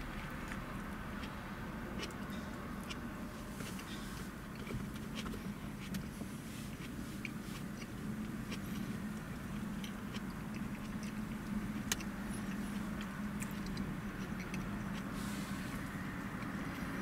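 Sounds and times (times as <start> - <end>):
man chewing with wet clicks: 0.0 - 17.0.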